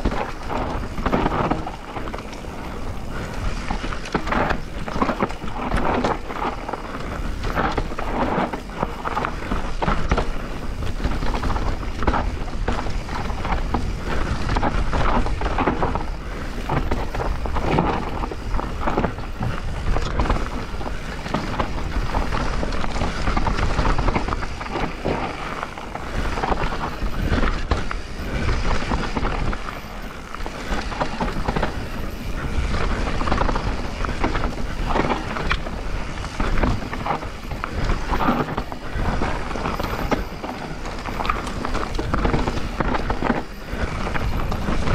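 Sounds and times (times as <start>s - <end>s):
bike rattling over bumps: 0.0s - 44.9s
tyres rolling over dirt and stones: 0.0s - 44.9s
wind rumble on microphone: 0.0s - 44.9s.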